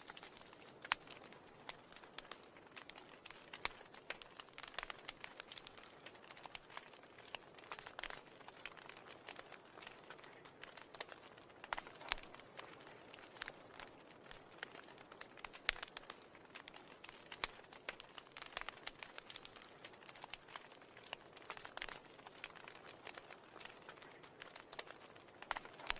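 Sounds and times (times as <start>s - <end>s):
faint steady hiss: 0.0s - 25.9s
wood fire crackling: 0.0s - 25.9s.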